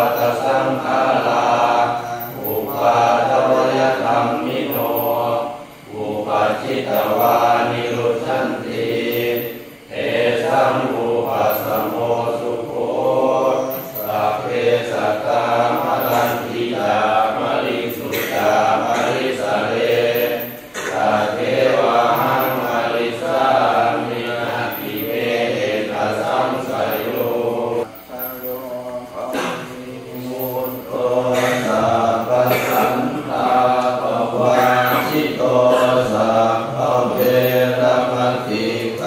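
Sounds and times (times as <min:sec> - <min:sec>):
monks chanting: 0:00.0 - 0:39.0.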